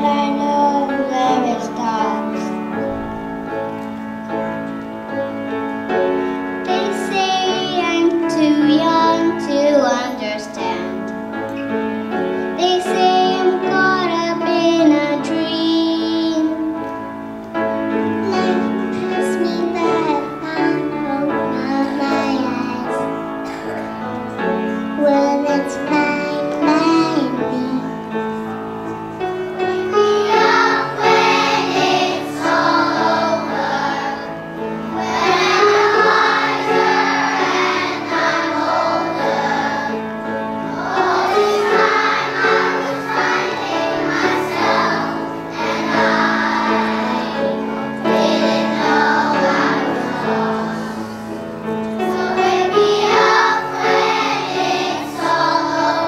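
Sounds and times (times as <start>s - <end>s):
musical accompaniment: 0.0s - 56.0s
children singing together: 5.2s - 11.0s, 12.4s - 16.9s, 17.9s - 56.0s.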